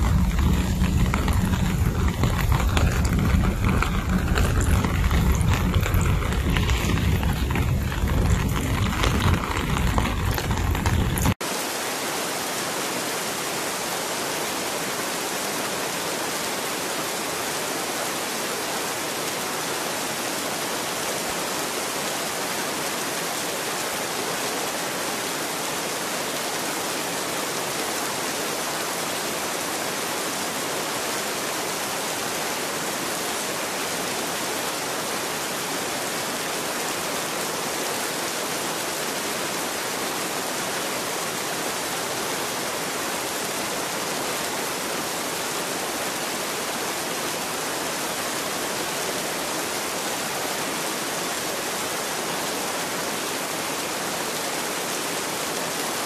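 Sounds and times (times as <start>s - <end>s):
heavy rain downpour: 0.0s - 56.0s.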